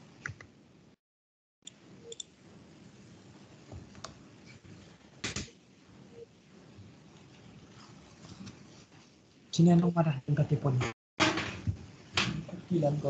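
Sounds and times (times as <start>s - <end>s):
faint room hiss: 1.7s - 13.0s.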